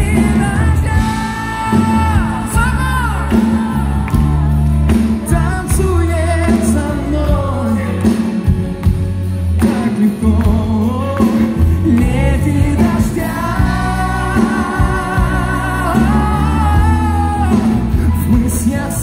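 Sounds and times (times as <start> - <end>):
bass line: 0.0 - 19.0
live pop band with singing: 0.0 - 19.0.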